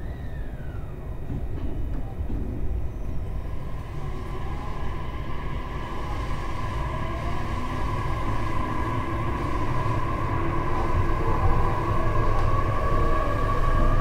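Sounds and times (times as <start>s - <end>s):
train motor whine: 0.0s - 14.0s
train wheels rumbling on rail: 0.0s - 14.0s.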